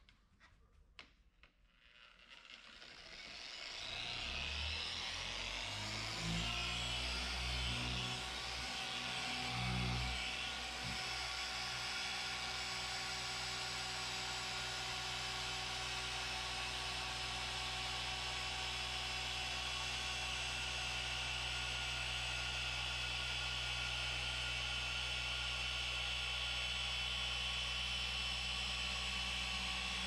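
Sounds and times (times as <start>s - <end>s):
electric polisher motor humming: 2.5s - 30.0s.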